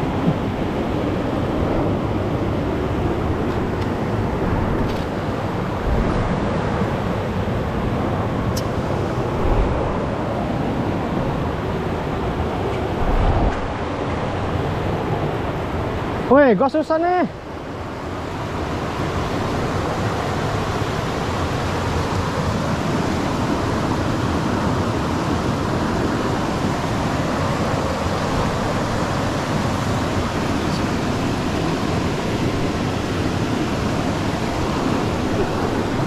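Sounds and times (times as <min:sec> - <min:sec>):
river water rushing over rocks: 0:00.0 - 0:36.0.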